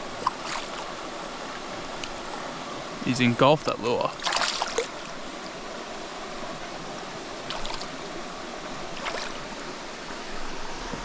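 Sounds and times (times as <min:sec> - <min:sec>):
creek flowing: 0:00.0 - 0:11.0.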